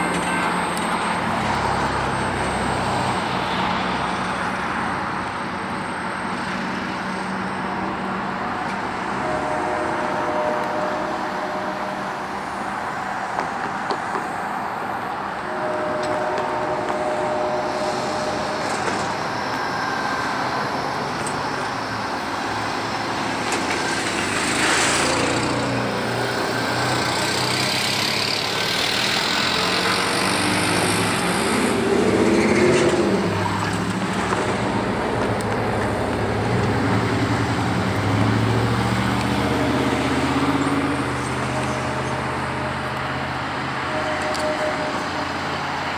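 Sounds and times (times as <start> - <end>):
train wheels rumbling on rails: 0.0 - 45.9
wheel squeals: 8.6 - 45.9.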